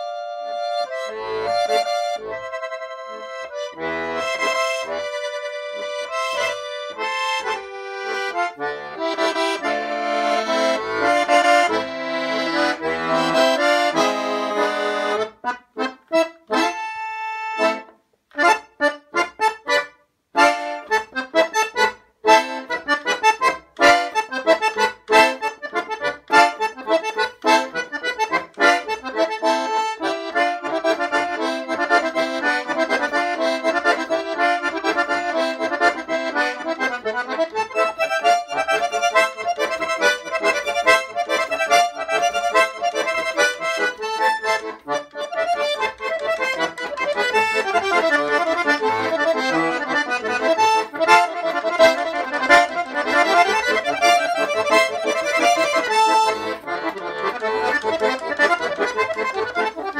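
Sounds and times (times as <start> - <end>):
button accordion folk tune: 0.0 - 59.9.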